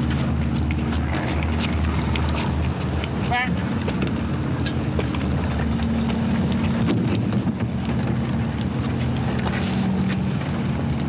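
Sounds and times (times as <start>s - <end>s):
low engine drone: 0.0s - 11.0s
wind buffeting microphone: 0.0s - 11.0s.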